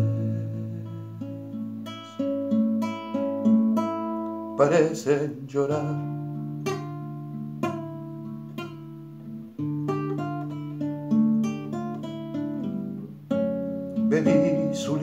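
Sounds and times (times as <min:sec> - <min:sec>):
classical acoustic guitar: 0:00.0 - 0:15.0.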